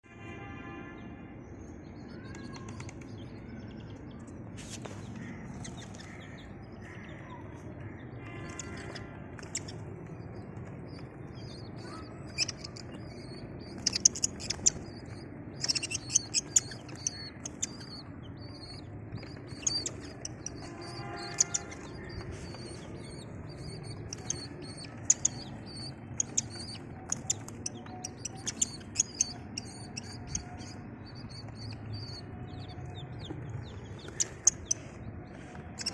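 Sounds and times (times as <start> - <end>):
baby chicks peeping: 2.1 - 35.9.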